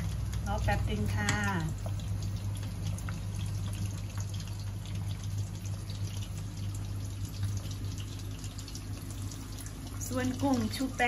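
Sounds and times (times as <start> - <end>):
constant low hum: 0.0 - 11.0
water boiling and bubbling: 0.0 - 11.0.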